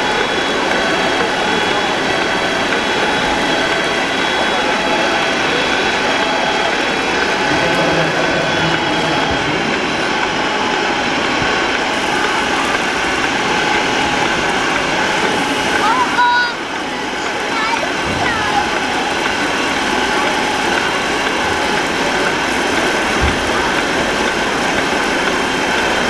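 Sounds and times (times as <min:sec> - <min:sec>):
machine running hiss: 0:00.0 - 0:26.0.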